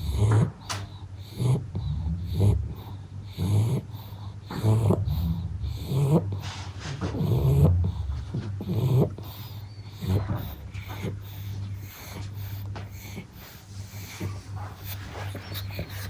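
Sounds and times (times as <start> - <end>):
dog snoring and snorting: 0.0 - 16.0.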